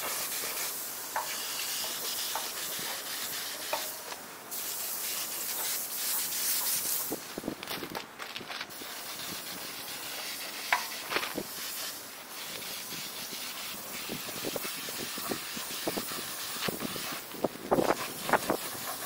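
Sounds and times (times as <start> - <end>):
spray gun hissing: 0.0 - 7.5, 8.7 - 19.0.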